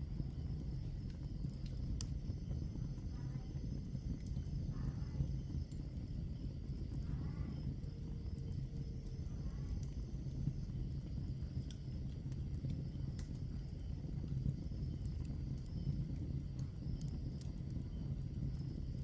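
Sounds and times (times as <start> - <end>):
fire rumbling: 0.0 - 19.0
wood crackling and popping: 0.0 - 19.0.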